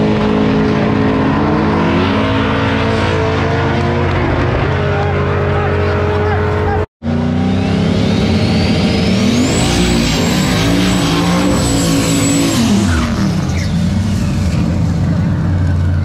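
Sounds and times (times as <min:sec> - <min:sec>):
drag cars revving: 0:00.0 - 0:16.0
high engine whine: 0:00.0 - 0:16.0.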